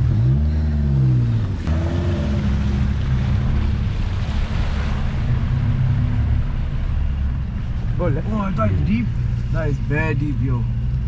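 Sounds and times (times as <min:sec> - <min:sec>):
water rushing and splashing: 0:01.6 - 0:10.8.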